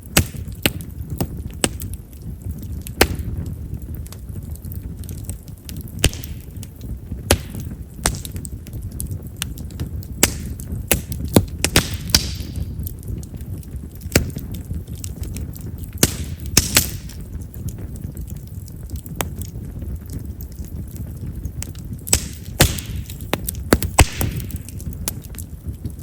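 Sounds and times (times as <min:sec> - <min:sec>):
campfire crackling and popping: 0:00.0 - 0:26.0
low rumble of flame: 0:00.0 - 0:26.0.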